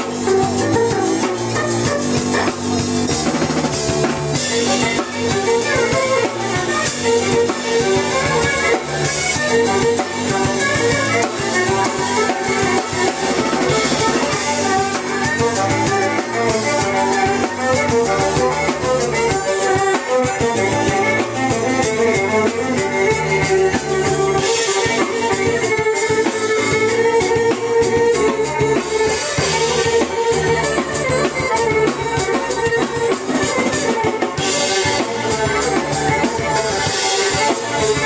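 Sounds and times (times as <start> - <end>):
drum kit pounding: 0.0 - 38.0
keyboard: 0.0 - 38.0
violin: 0.0 - 38.0.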